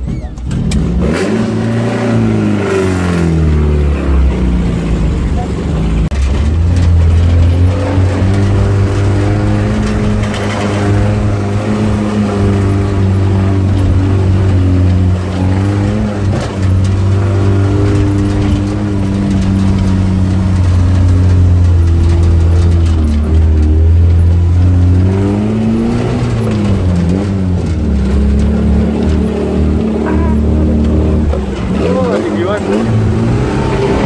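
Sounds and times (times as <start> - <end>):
off-road vehicle engine running: 0.0 - 34.0
vehicle rattles and knocks: 0.0 - 34.0.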